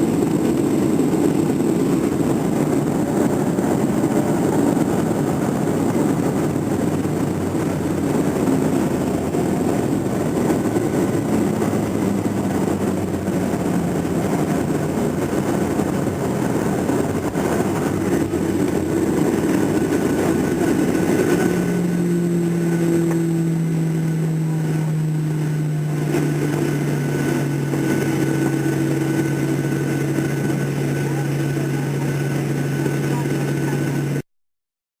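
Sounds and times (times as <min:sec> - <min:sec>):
low engine hum: 0:00.0 - 0:34.2
airliner cabin airflow roar: 0:00.0 - 0:34.3.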